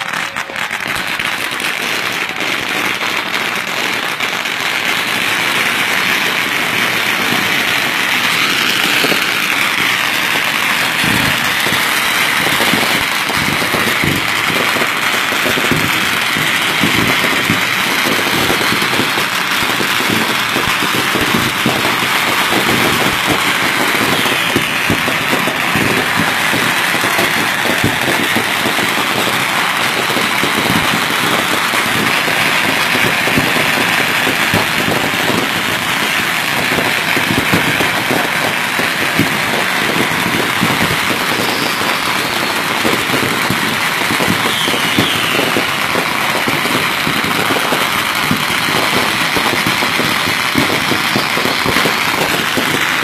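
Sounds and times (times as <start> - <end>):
firecrackers crackling: 0.0 - 53.0
firework pops: 0.0 - 53.0.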